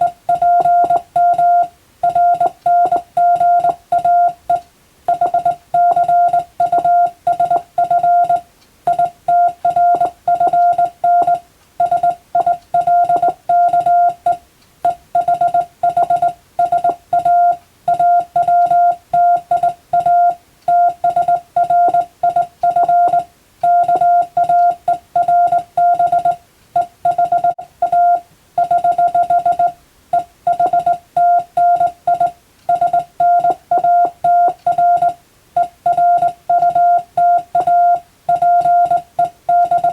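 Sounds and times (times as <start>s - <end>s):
morse code beeping: 0.0s - 39.9s.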